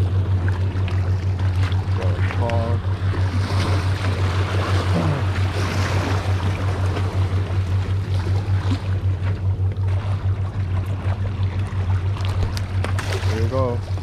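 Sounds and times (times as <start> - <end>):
low pulsing hum: 0.0 - 14.0
water lapping against rocks: 0.0 - 14.0.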